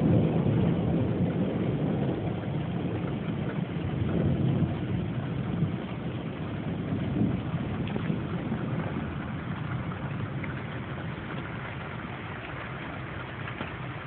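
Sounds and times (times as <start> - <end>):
storm wind and rain: 0.0 - 14.0.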